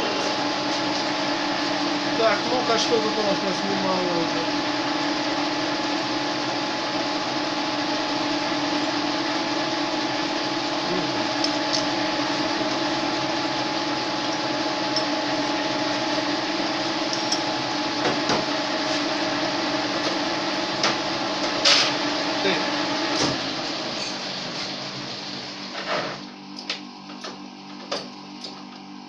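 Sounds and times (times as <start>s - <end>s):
lathe humming: 0.0s - 25.6s.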